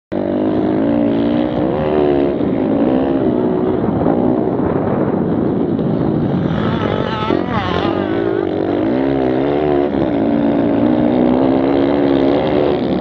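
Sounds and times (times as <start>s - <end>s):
small motorbike engines revving: 0.1s - 4.6s, 5.3s - 13.0s.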